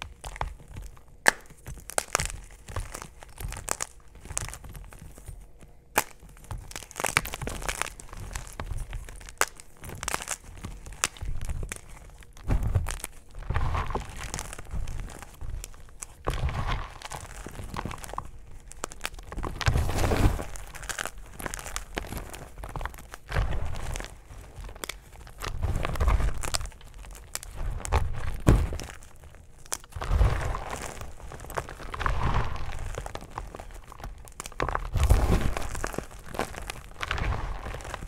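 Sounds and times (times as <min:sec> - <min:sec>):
hands crushing chalk: 0:00.0 - 0:38.0.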